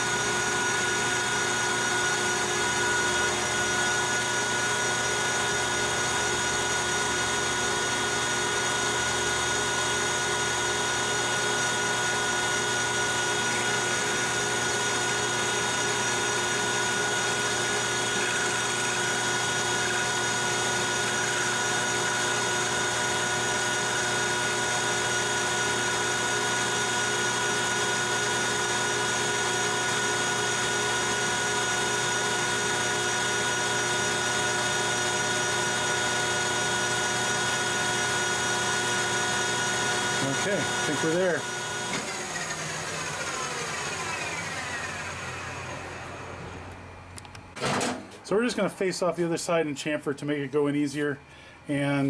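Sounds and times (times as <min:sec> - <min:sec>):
metal lathe running with whining tones: 0:00.0 - 0:46.9.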